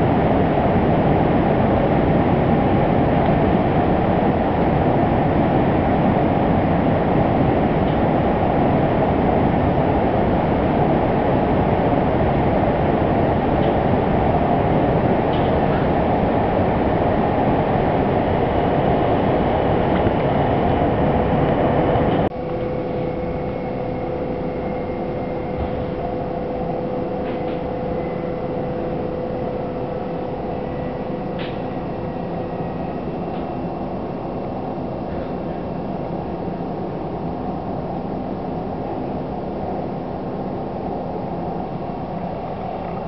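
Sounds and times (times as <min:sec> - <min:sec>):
steady train hum: 0:00.0 - 0:43.0
train rumbling inside passenger car: 0:00.0 - 0:43.0.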